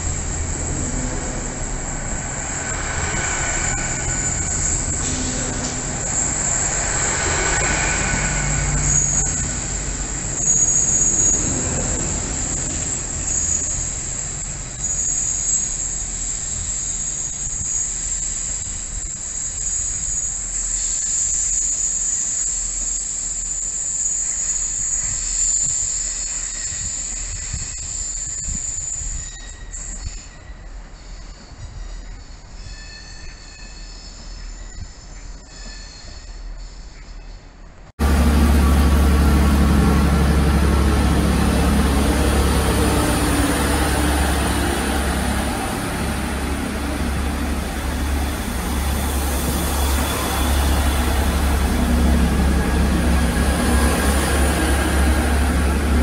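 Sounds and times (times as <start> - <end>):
high wheel squeal: 0.0 - 37.5, 38.4 - 56.0
train rumbling past: 0.0 - 56.0.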